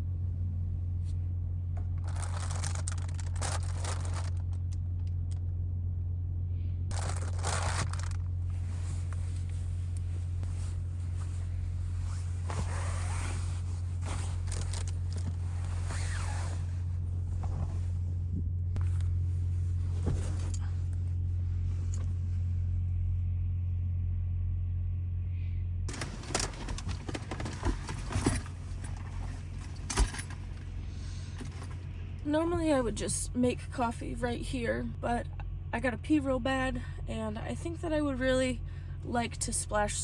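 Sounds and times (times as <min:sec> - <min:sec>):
engine and road noise rumble: 0:00.0 - 0:40.0.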